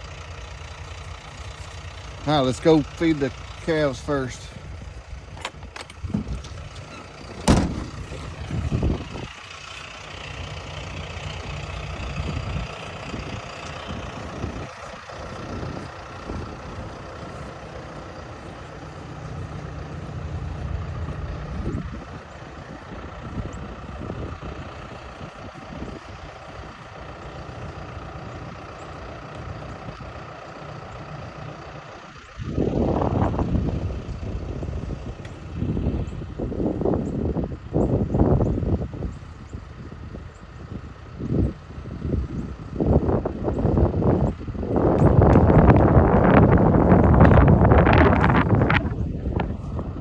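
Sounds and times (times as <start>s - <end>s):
pickup truck engine rumbling: 0.0s - 50.0s.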